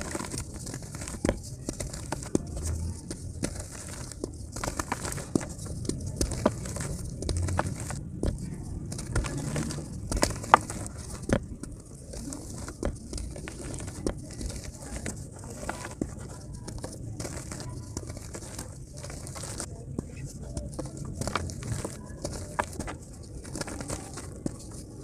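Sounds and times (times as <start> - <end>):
dry dirt crumbling by hand: 0.0 - 25.0.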